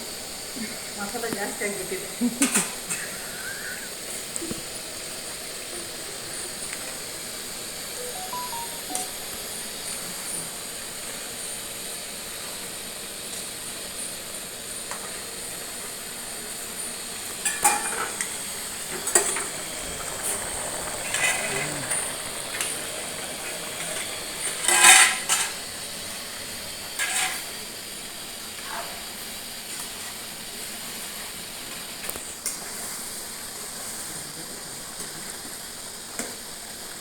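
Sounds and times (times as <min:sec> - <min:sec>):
food sizzling in a pan: 0:00.1 - 0:09.2, 0:10.3 - 0:37.0.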